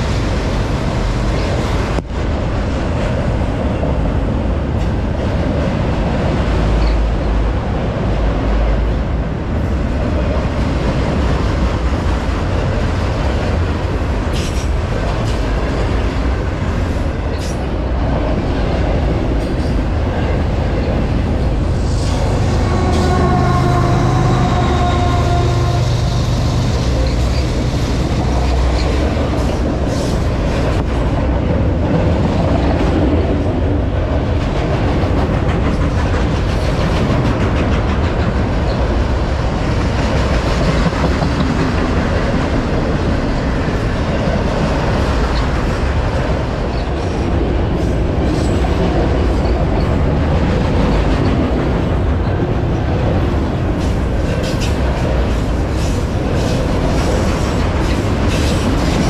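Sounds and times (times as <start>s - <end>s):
diesel locomotive engine drone: 0.0s - 59.0s
steel wheels rumbling on rails: 0.0s - 59.0s.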